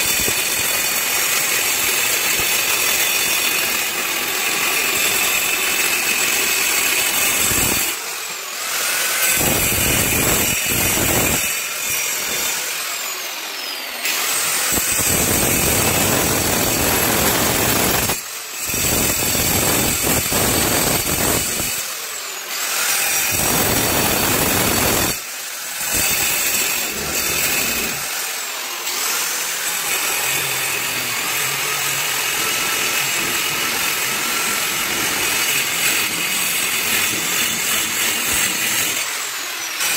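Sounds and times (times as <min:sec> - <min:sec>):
angle grinder cutting brick: 0:00.0 - 0:39.9.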